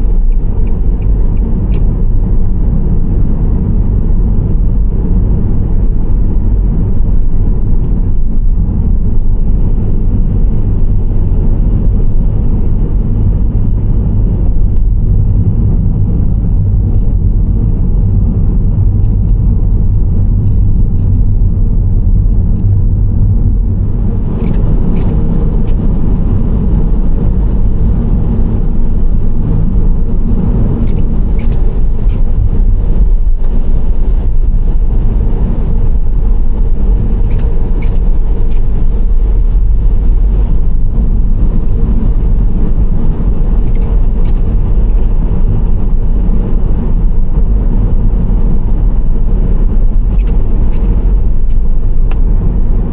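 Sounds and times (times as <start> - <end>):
engine and road rumble: 0.0 - 52.9.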